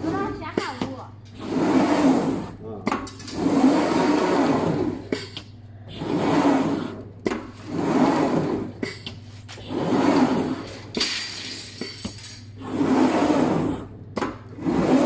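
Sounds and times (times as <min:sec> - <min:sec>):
machine motor whirring: 0:01.1 - 0:11.0, 0:12.4 - 0:15.0.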